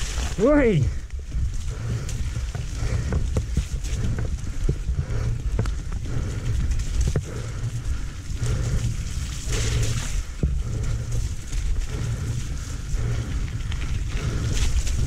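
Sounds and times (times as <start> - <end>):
bike knocking and rattling: 0.0 - 15.0
wind noise on microphone: 0.0 - 15.0.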